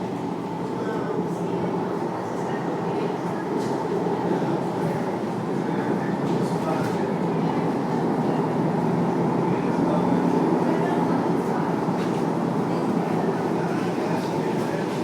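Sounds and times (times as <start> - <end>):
tram running on rails: 0.0 - 15.0.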